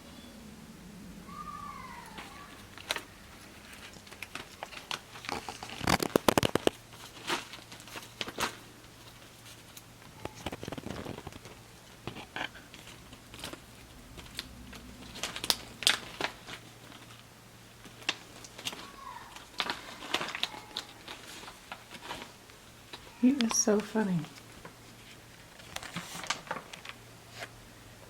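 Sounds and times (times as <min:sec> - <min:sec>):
snack bag crinkling: 0:02.1 - 0:27.5.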